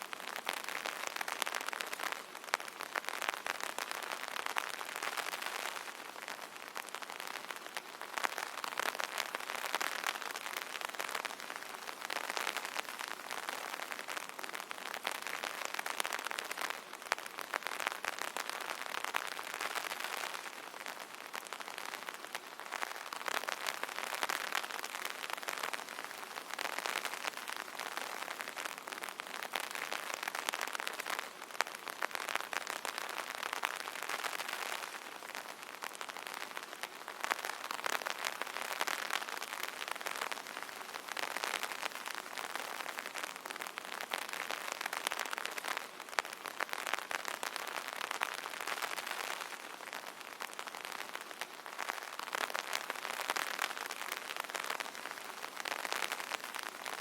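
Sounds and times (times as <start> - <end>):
rain pattering on an umbrella: 0.0 - 57.0.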